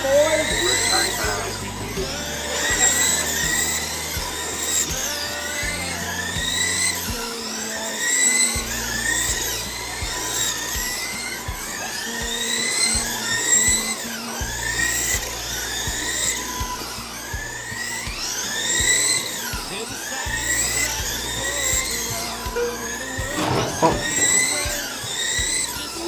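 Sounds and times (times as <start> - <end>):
background music with low beat: 0.0 - 7.6, 8.6 - 26.0
electric rc car motors whining: 0.0 - 26.0.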